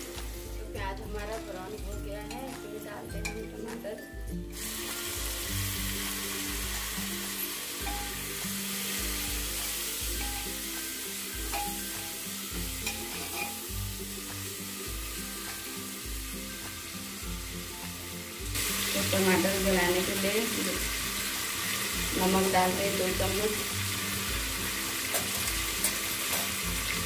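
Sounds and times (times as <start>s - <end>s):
tomatoes sizzling in hot oil: 0.0s - 27.0s.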